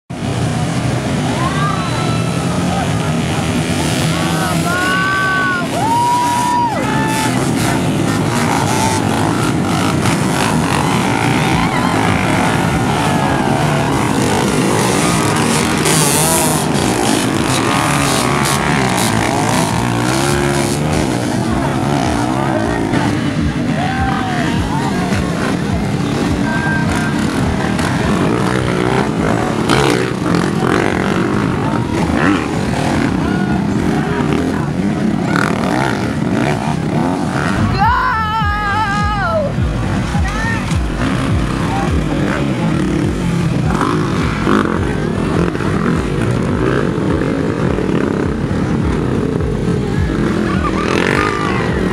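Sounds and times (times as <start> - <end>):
dirt bike engines revving: 0.1 - 51.9.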